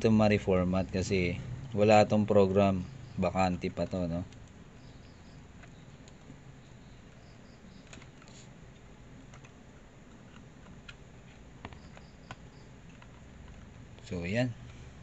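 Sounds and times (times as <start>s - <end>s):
low room noise: 0.0s - 15.0s.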